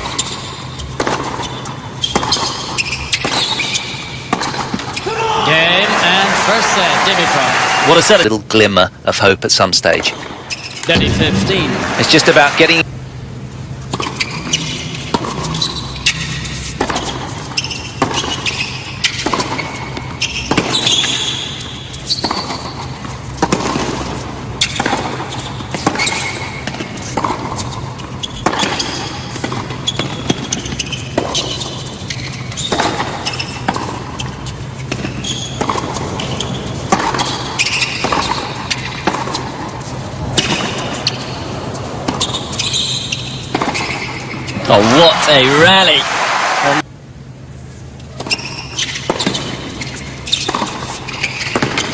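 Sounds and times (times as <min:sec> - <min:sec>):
shoes squeaking on court: 0:00.0 - 0:05.1, 0:10.2 - 0:11.4, 0:13.8 - 0:46.0, 0:47.8 - 0:51.9
racket striking tennis ball: 0:01.0 - 0:01.5, 0:02.1 - 0:05.0, 0:10.2 - 0:12.8, 0:13.9 - 0:46.4, 0:48.1 - 0:51.9
steady low hum: 0:08.3 - 0:51.9.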